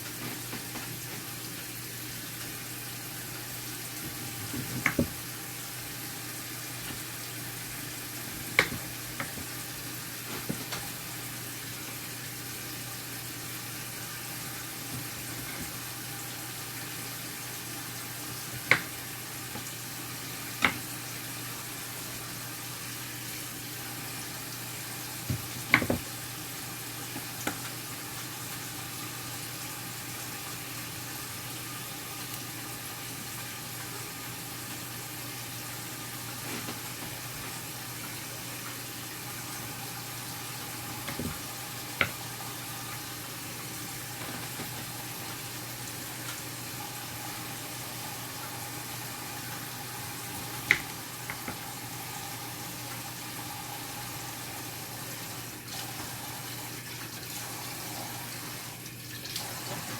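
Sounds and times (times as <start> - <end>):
food sizzling on stove: 0.0 - 59.9.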